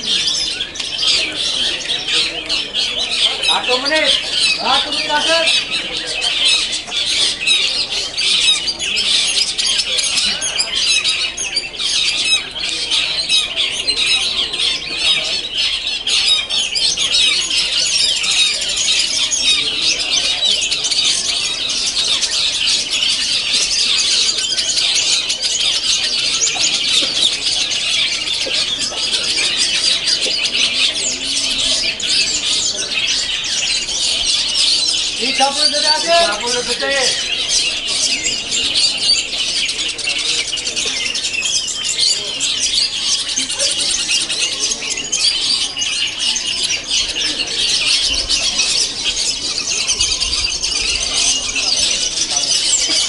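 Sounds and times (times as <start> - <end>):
chorus of shrill birdsong: 0.0 - 53.0.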